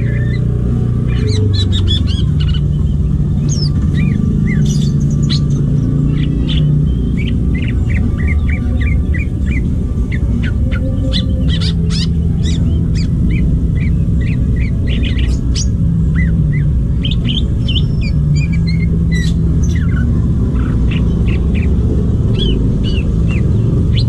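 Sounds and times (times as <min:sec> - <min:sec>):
bird singing chirps and whistles: 0:00.0 - 0:24.0.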